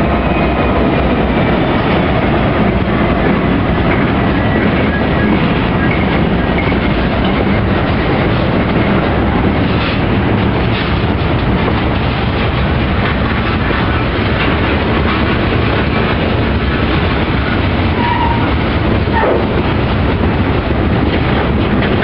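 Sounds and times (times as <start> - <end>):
freight train wheels rumbling on rails: 0.0 - 22.0.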